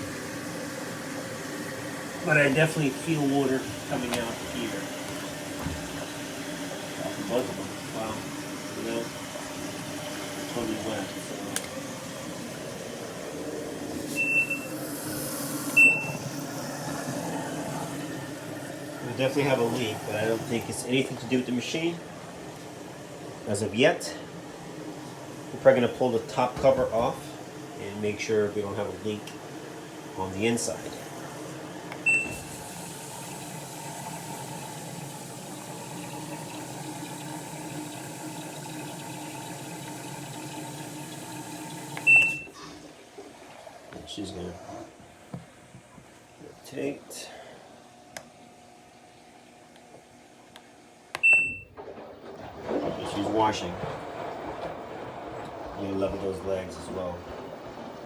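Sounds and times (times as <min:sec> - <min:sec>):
water filling: 0:00.0 - 0:46.0, 0:51.2 - 0:58.0
washing machine humming: 0:00.0 - 0:58.0.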